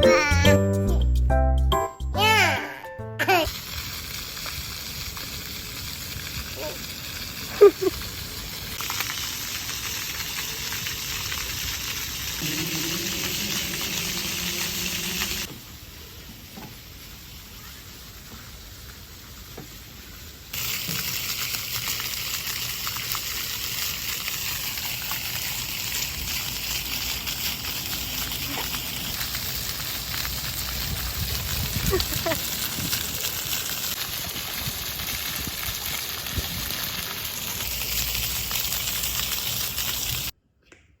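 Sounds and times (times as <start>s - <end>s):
fountain water spraying: 3.2s - 40.4s.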